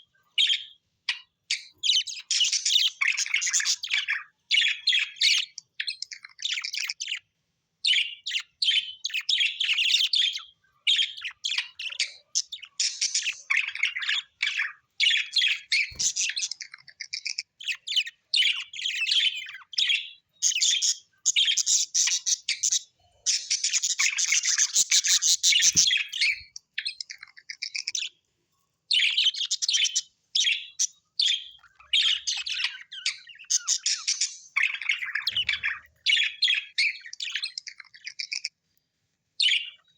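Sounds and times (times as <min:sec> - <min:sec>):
parrots chattering and chirping: 0:00.0 - 0:38.8, 0:39.4 - 0:39.9.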